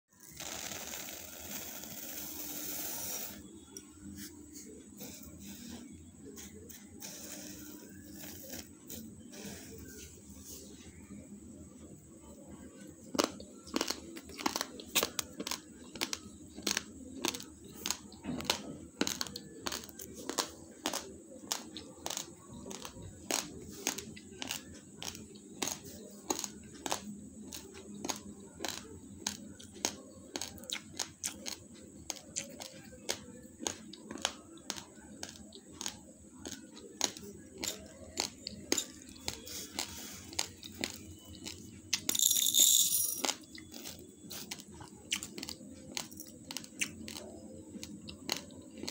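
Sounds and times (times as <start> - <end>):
rice crunching between teeth: 0.2 - 4.3, 5.0 - 9.9, 13.1 - 48.9.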